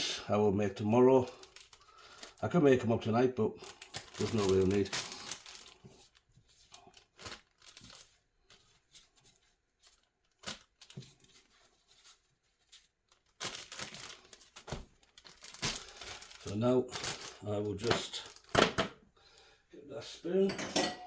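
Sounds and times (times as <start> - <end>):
plastic bag crinkling: 0.8 - 18.8.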